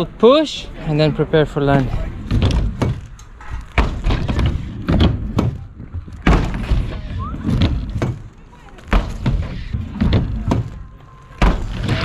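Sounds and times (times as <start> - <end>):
skate wheels rolling on ramp: 1.8 - 12.0
knocks and thuds on ramp: 2.2 - 12.0.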